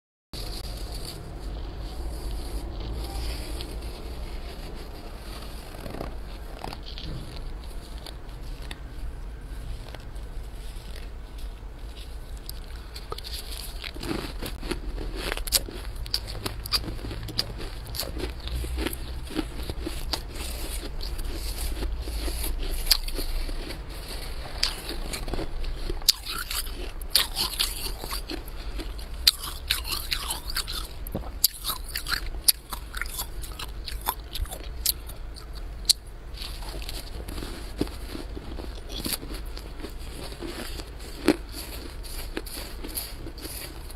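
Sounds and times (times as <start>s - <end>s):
frost crunching and crackling: 0.4s - 43.9s
low steady hum: 0.4s - 43.9s.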